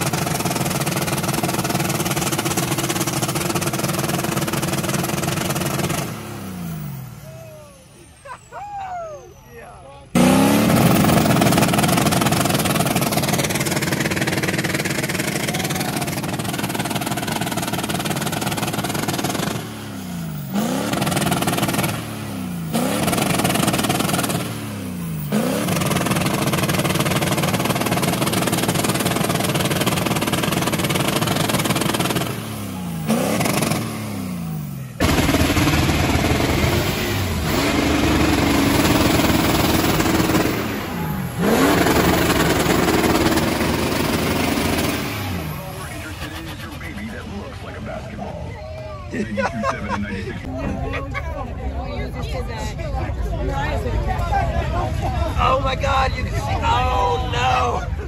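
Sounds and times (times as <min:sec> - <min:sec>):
truck engine revving: 0:00.0 - 0:08.5, 0:10.0 - 0:48.5.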